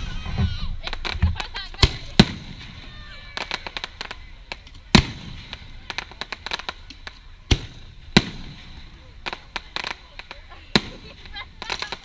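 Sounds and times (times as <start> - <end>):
crackling firework pops: 0.0 - 12.0
firework shell booms: 0.0 - 12.0.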